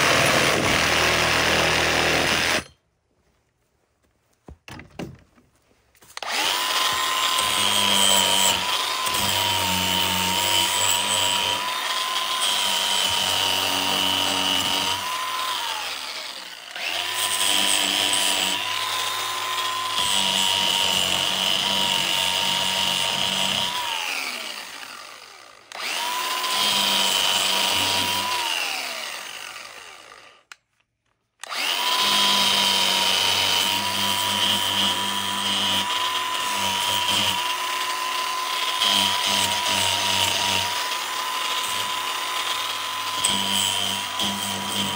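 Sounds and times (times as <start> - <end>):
power tool motor whining: 0.0 - 2.8, 6.1 - 30.6, 31.4 - 44.9.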